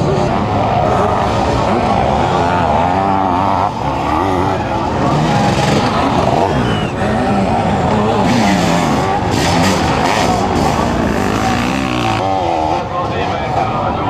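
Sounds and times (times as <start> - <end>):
motorcycle engines revving hard: 0.0 - 14.0.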